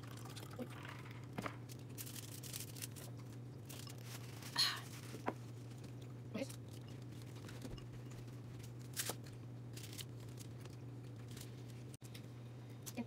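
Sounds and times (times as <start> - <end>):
steady low hum: 0.0 - 13.0
clicks and rustles of food handling: 1.5 - 13.0.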